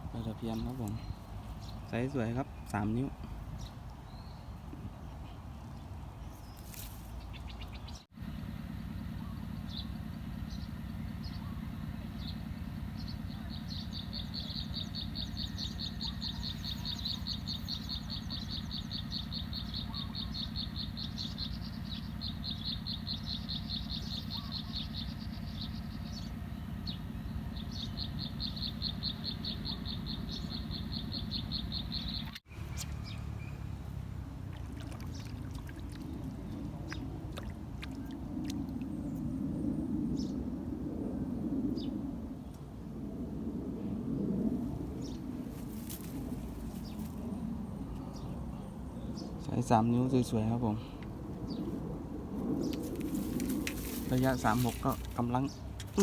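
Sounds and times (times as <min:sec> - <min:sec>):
low outdoor background hum: 0:00.0 - 0:56.0.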